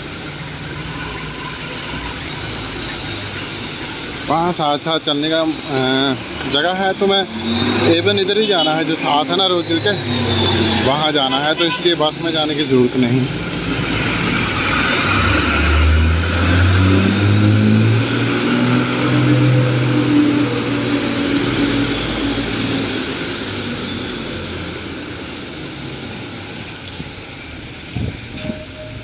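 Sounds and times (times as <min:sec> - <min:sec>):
bus diesel engine accelerating: 0:00.0 - 0:29.0.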